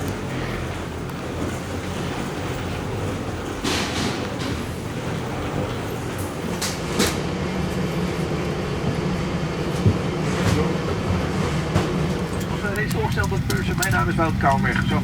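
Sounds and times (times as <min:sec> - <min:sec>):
machinery rumble and hum: 0:00.0 - 0:15.0.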